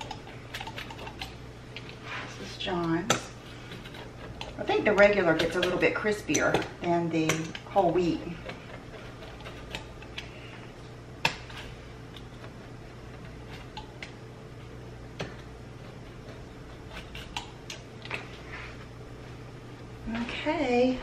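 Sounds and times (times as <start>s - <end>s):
pizza cutter crunching crust: 0.0s - 19.0s
low steady hum: 0.0s - 21.0s.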